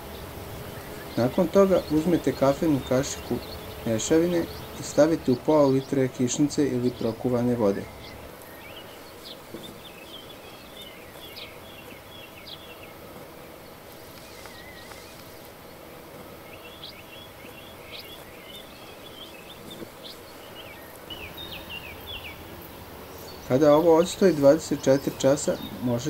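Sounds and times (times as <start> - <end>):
outdoor background hiss: 0.0 - 26.0
songbird chirping: 0.0 - 26.0.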